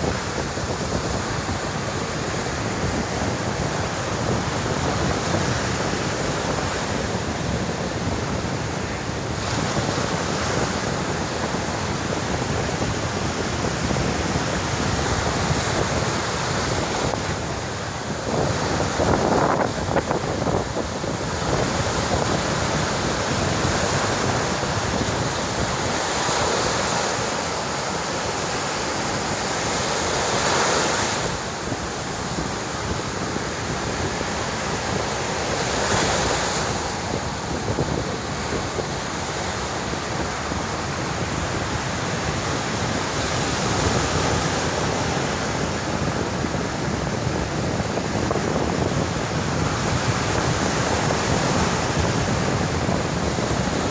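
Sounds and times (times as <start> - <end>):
surf breaking on beach: 0.0 - 53.9
wind buffeting microphone: 0.0 - 53.9.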